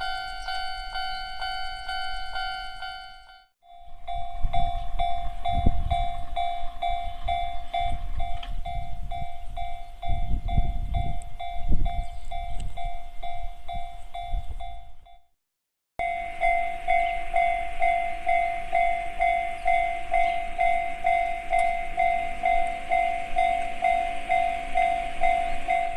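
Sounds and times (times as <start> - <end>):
level crossing bell ringing: 0.0 - 15.0, 16.0 - 25.9
faster higher-pitched crossing bell: 0.0 - 15.2, 16.0 - 25.9
train rumbling: 0.0 - 15.2, 16.0 - 25.9.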